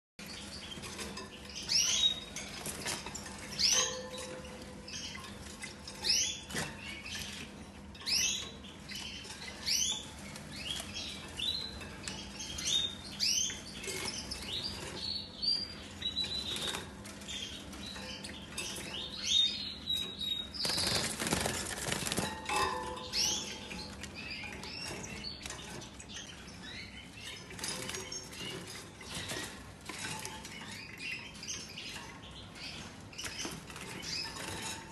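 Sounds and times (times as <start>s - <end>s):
finch chirp calls: 0.3s - 34.8s.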